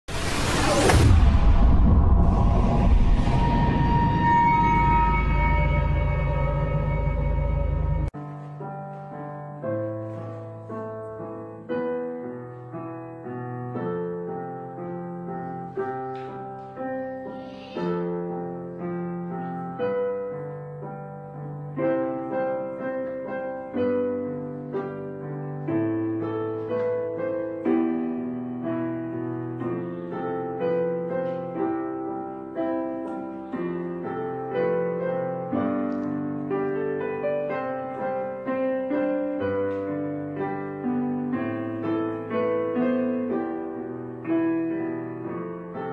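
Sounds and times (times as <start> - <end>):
slow piano music: 3.2 - 45.9.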